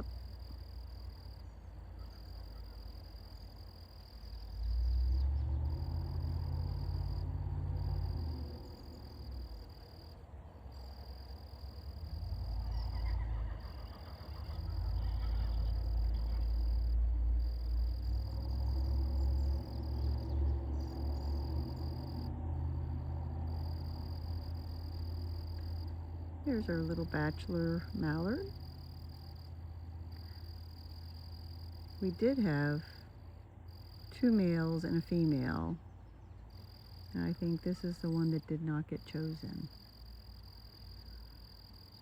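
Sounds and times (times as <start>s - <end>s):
faint high insect-like drone: 0.0s - 42.0s
frogs croaking: 0.0s - 42.0s.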